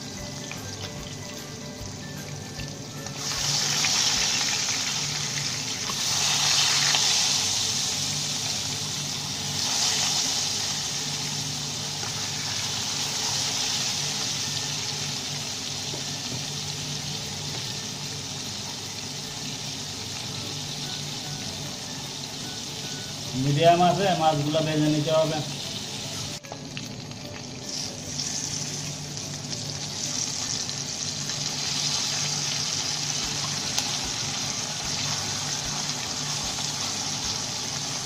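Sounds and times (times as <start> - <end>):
fish sizzling in hot oil: 0.0 - 38.0.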